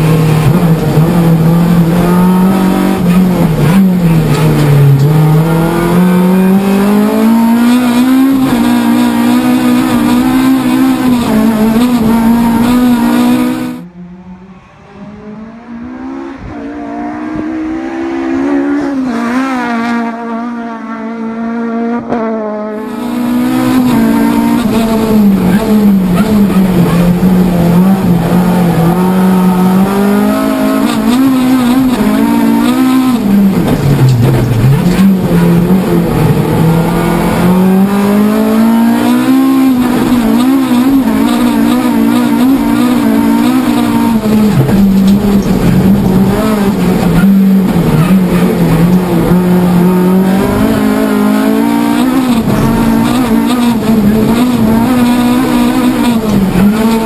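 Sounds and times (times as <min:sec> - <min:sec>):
car engine revving from cabin: 0:00.0 - 0:57.0.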